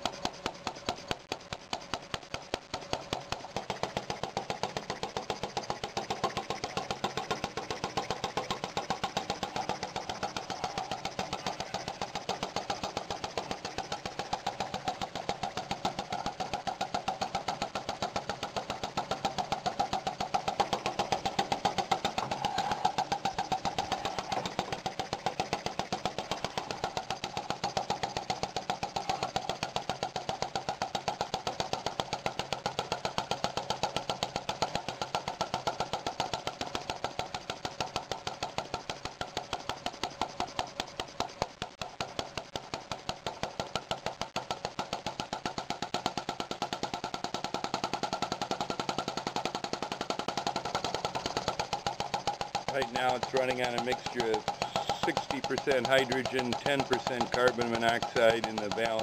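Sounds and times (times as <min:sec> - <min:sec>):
gas engine running: 0:00.0 - 0:59.0.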